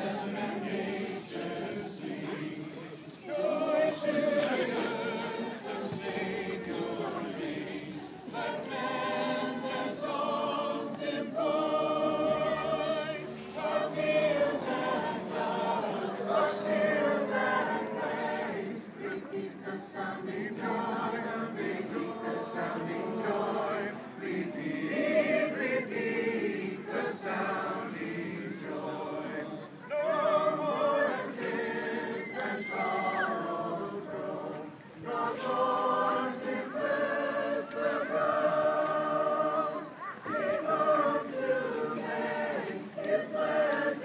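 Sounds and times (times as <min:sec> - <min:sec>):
many voices singing together: 0:00.0 - 0:44.0.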